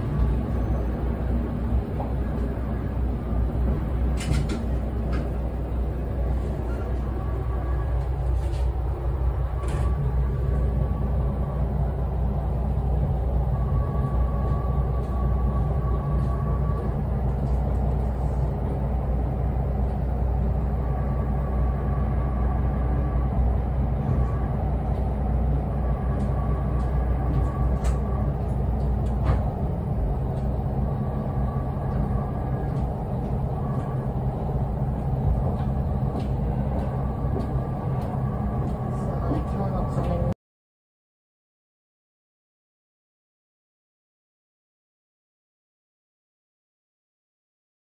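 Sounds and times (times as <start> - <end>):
railcar engine hum: 0.0 - 40.4
wheel rumble: 0.0 - 40.4.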